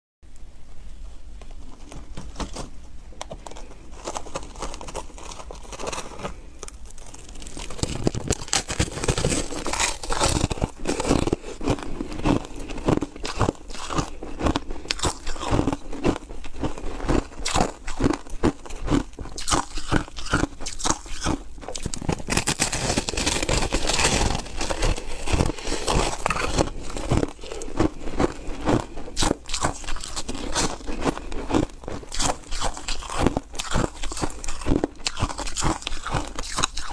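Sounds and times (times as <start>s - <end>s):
person chewing ice crunching: 3.3s - 36.9s.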